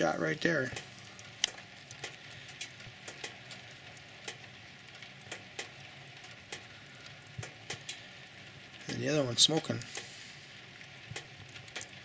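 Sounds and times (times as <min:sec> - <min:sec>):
steady hiss of burning gas: 0:00.0 - 0:12.0
wood fire crackling and popping: 0:00.0 - 0:12.0.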